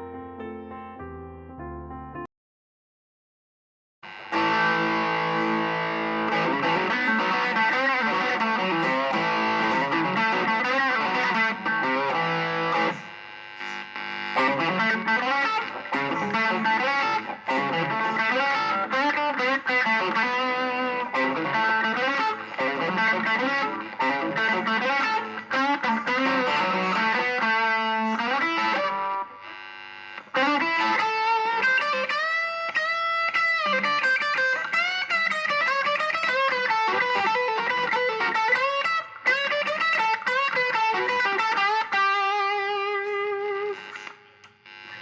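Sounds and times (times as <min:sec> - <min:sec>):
distorted electric guitar lead: 0:04.0 - 0:45.0.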